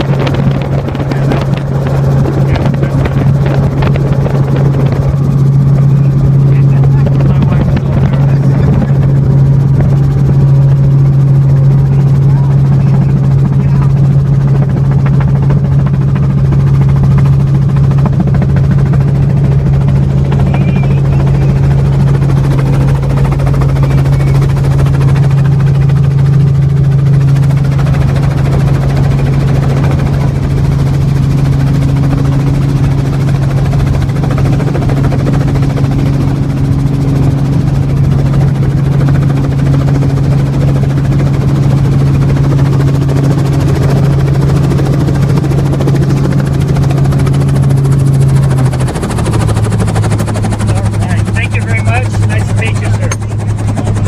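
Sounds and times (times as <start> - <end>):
helicopter droning in flight: 0.0 - 54.0.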